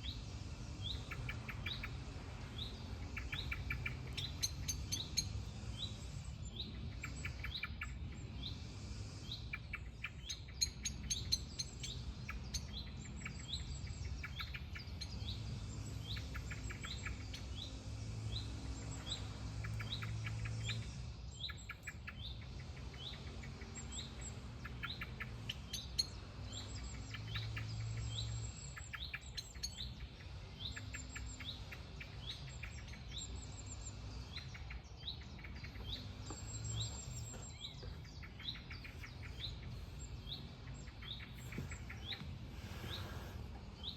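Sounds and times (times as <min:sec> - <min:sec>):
bird repeating rising chirp: 0:00.0 - 0:43.9
birds trilling: 0:00.0 - 0:43.9.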